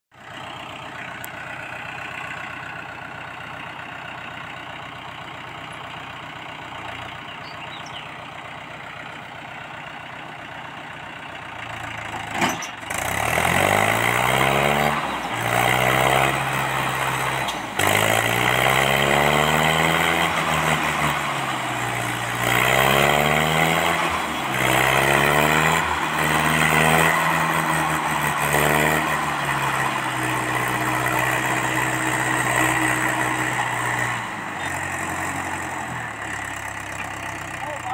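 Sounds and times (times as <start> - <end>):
tractor engine idling and revving: 0.1 - 37.9.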